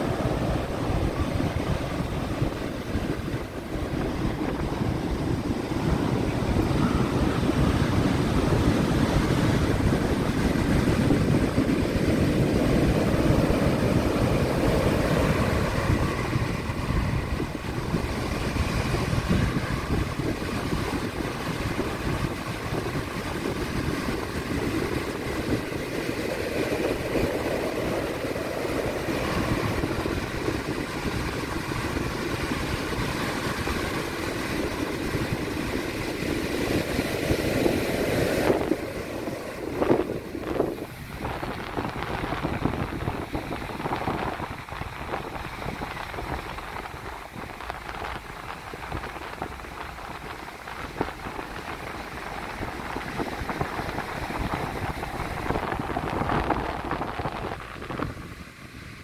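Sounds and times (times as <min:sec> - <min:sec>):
heavy surf breaking on sand: 0:00.0 - 0:59.0.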